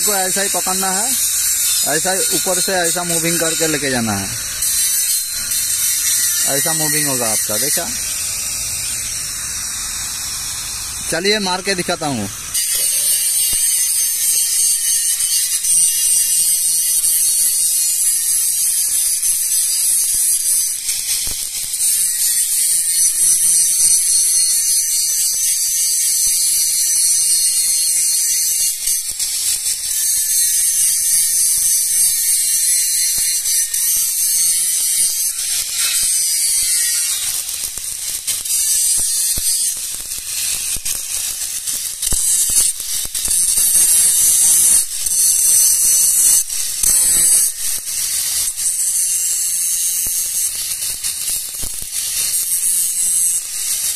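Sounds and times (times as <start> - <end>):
welding arc crackling: 0.0 - 53.9.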